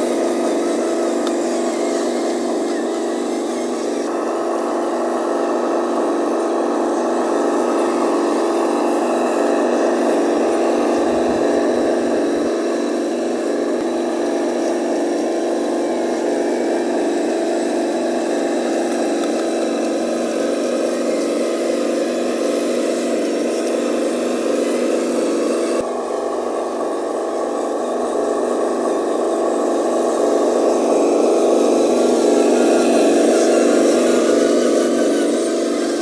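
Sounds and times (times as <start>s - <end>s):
toy truck motor humming: 0.0s - 36.0s.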